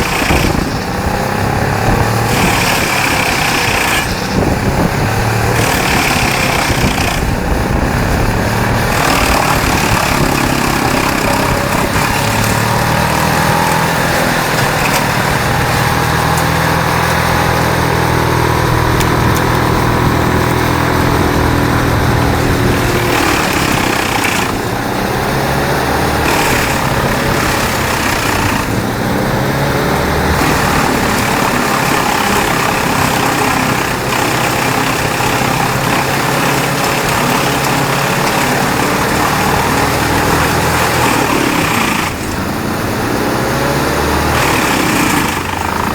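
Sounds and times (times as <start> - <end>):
wood chipper engine drone: 0.0 - 45.9
wood chipper grinding: 0.0 - 45.9.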